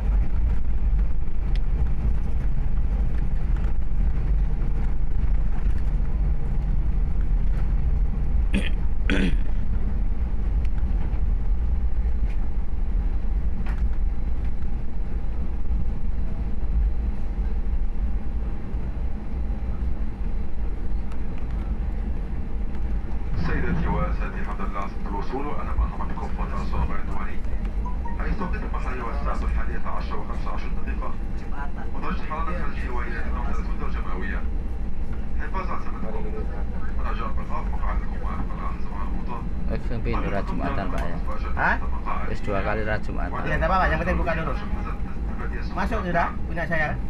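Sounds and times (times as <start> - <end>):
jet engine rumble in cabin: 0.0 - 47.0.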